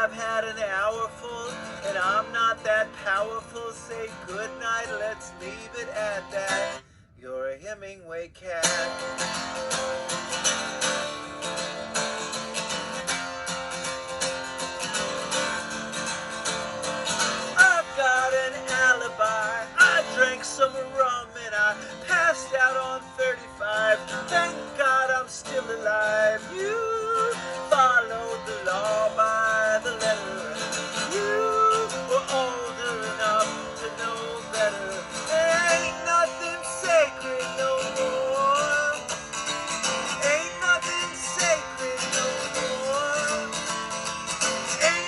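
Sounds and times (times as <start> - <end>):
acoustic guitar strumming: 0.0 - 7.1, 7.7 - 45.0.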